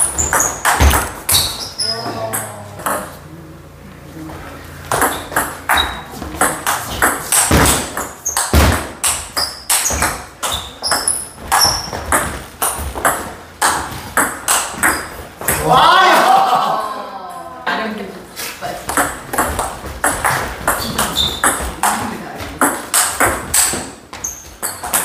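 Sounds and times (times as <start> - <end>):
shoes squeaking on wooden floor: 0.0 - 3.2, 4.3 - 15.6, 19.0 - 25.0.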